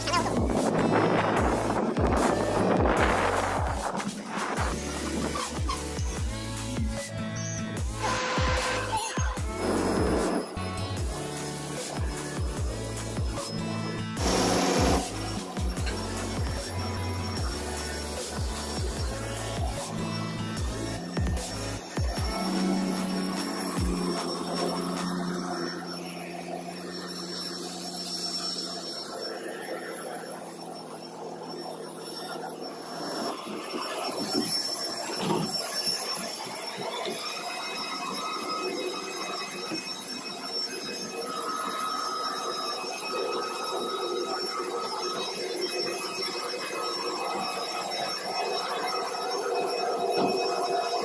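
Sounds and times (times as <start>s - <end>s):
jet aircraft whine and hum: 0.1s - 51.0s.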